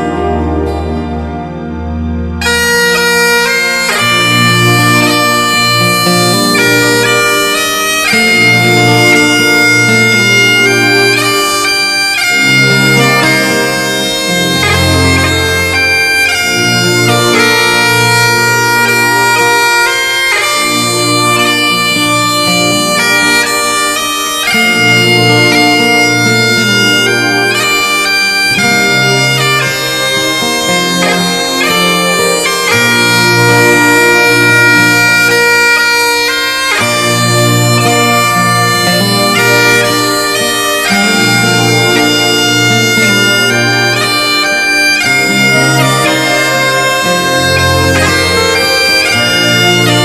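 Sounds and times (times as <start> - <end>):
bagpipe music: 0.0 - 50.0.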